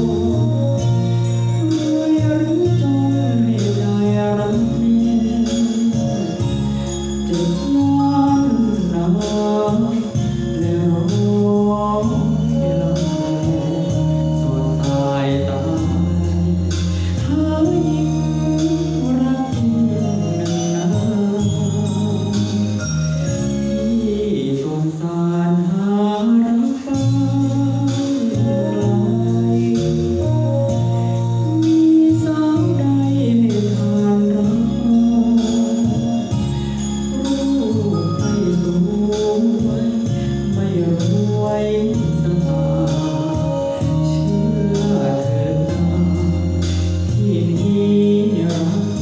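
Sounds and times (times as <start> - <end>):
backing music with steady beat: 0.0 - 49.0
man singing into microphone: 0.0 - 49.0.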